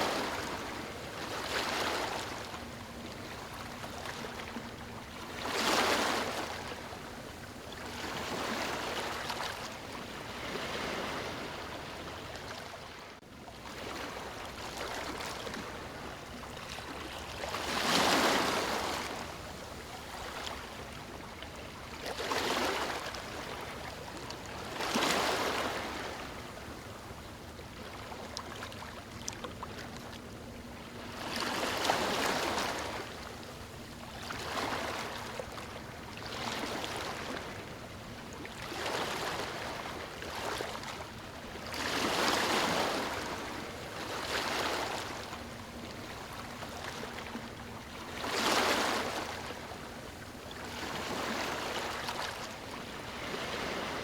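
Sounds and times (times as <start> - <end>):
sea waves breaking: 0.0 - 27.0, 27.6 - 54.0.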